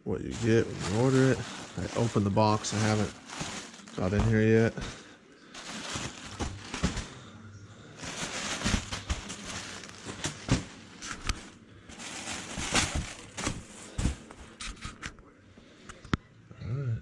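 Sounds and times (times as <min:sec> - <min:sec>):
packaging rustling and crinkling: 0:00.2 - 0:07.3, 0:08.0 - 0:15.1.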